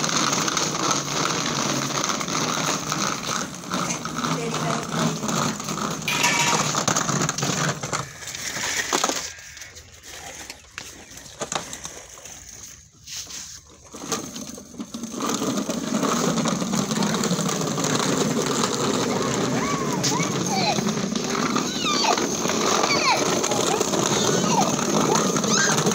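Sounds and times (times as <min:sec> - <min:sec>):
plastic wheels rolling on stone: 0:00.0 - 0:25.9.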